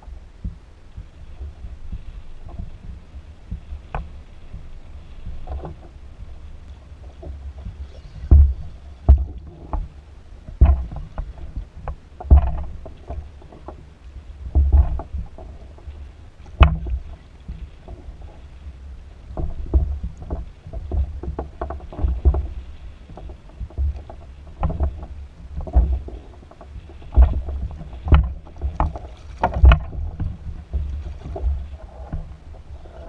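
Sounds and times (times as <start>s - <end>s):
wind rumble on microphone: 0.0s - 33.0s
water slapping against kayak hull: 0.4s - 32.8s.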